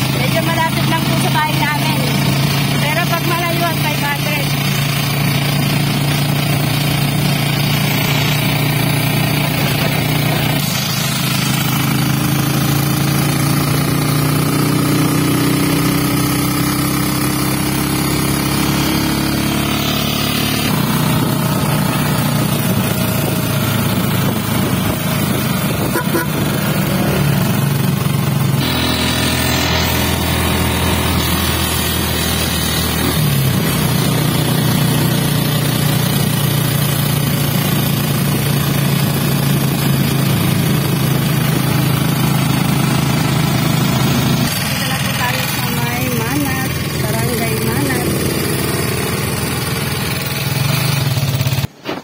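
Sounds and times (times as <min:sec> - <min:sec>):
road noise: 0:00.0 - 0:52.0
vehicle engine humming: 0:00.0 - 0:52.0.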